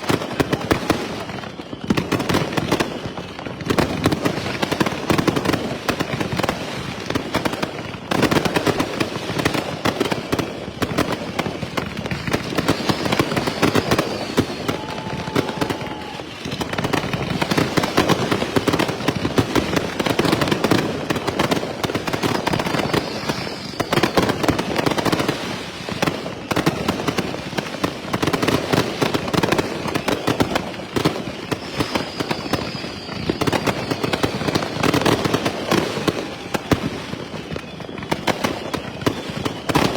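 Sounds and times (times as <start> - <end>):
falling fireworks whistles: 0.0 - 39.9
fireworks bangs and crackle: 0.0 - 39.9.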